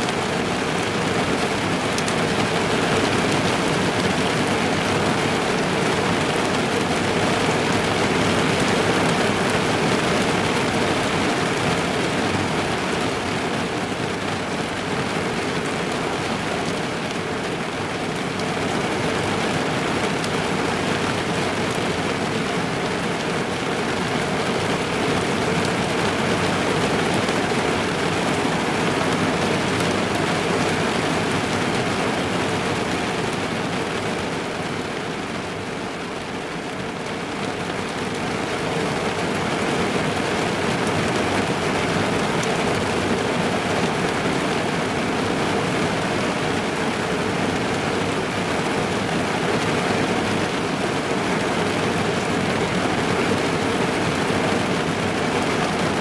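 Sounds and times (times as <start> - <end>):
rain pattering on car roof: 0.0 - 56.0.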